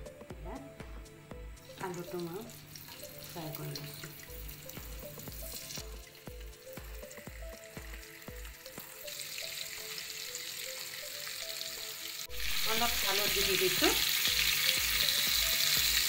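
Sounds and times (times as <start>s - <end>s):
background music with beat: 0.0s - 16.0s
potatoes sizzling in oil: 1.6s - 16.0s.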